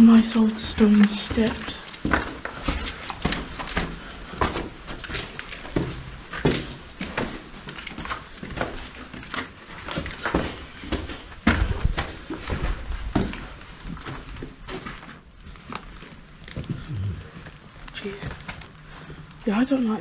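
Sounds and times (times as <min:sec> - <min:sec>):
footsteps on gritty stone steps: 0:00.0 - 0:19.8.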